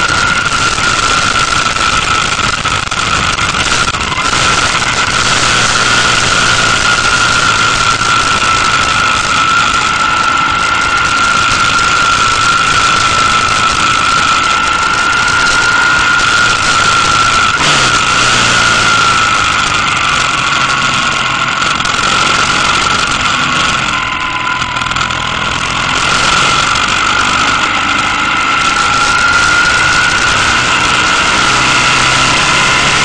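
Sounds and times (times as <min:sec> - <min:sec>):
motorcycle engine running: 0:00.0 - 0:33.0
wind rushing over camera: 0:00.0 - 0:33.0.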